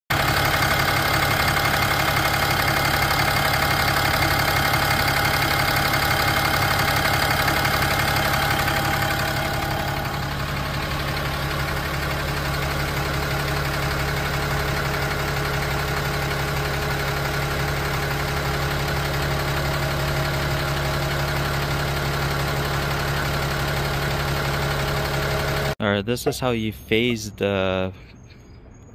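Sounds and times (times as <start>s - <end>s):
diesel engine idling: 0.1s - 28.9s
engine ticking: 0.1s - 28.9s.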